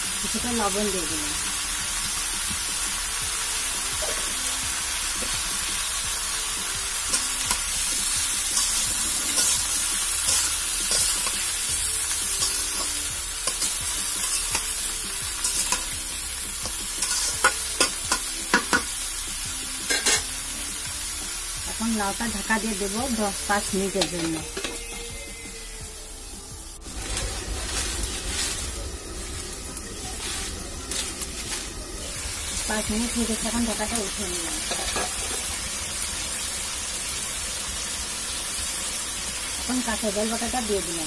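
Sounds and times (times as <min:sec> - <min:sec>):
vegetables sizzling in oil: 0:00.0 - 0:41.0.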